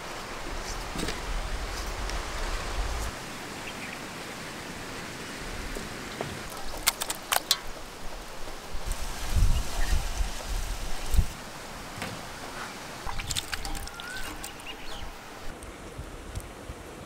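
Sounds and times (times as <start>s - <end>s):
wind rumbling on microphone: 0.0s - 3.8s, 4.5s - 17.0s
steady outdoor hiss: 0.0s - 17.0s.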